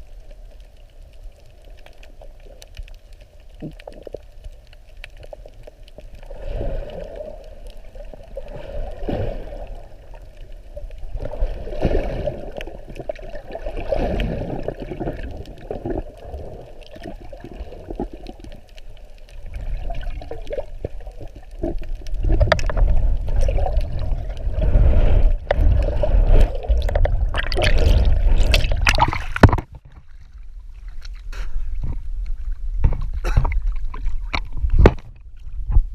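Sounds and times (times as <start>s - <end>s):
water sloshing and gurgling: 0.0s - 35.9s.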